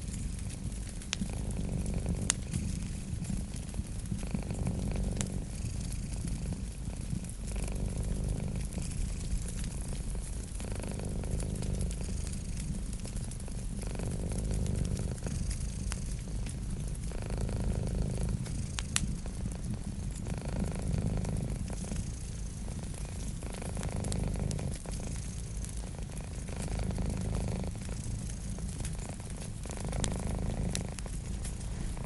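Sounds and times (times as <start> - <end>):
cat purring: 0.0 - 32.0
wood fire crackling: 0.0 - 32.0.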